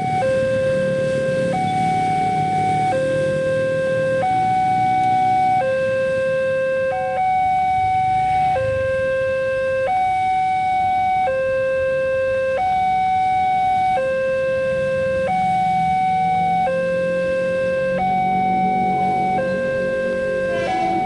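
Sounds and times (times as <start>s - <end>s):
level-crossing two-tone alarm: 0.0s - 21.0s.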